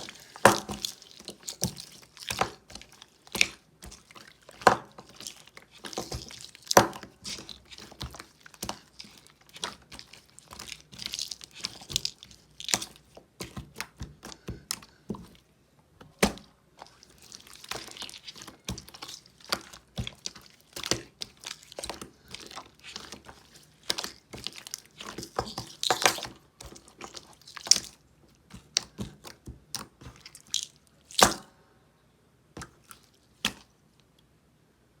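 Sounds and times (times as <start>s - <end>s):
slime squished by hand: 0.0s - 31.5s.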